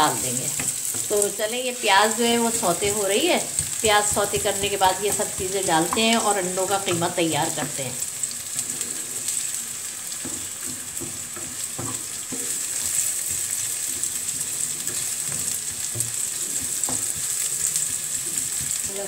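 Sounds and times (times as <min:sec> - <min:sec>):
onions sizzling in hot oil: 0:00.0 - 0:19.0
wooden spatula scraping pan: 0:02.4 - 0:19.0.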